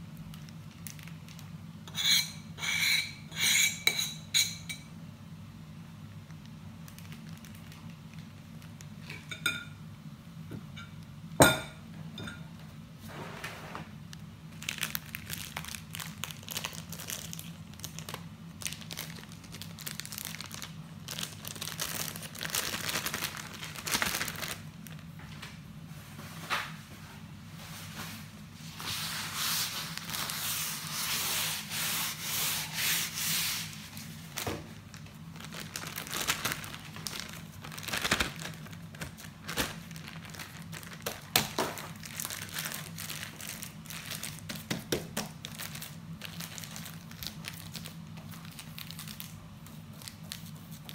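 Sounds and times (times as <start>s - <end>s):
low steady hum: 0.0s - 50.9s
plastic bag rustling and crinkling: 0.2s - 1.6s, 6.3s - 9.2s, 13.1s - 50.9s.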